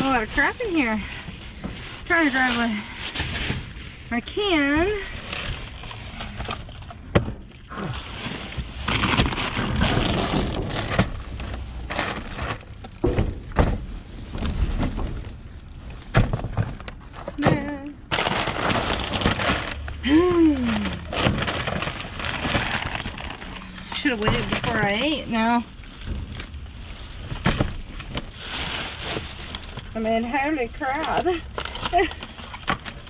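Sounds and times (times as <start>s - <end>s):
plastic and bubble wrap crinkling: 0.0s - 33.0s.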